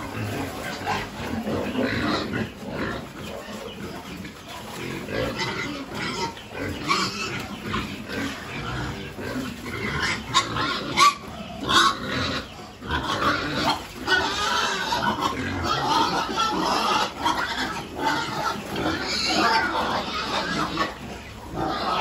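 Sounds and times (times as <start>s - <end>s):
pigs grunting and eating: 0.0s - 22.0s.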